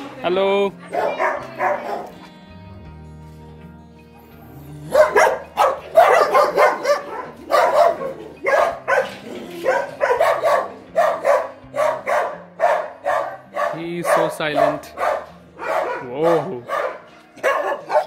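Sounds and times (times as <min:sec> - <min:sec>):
quiet background music: 0:00.0 - 0:18.0
dogs barking: 0:00.7 - 0:02.2, 0:04.4 - 0:18.0.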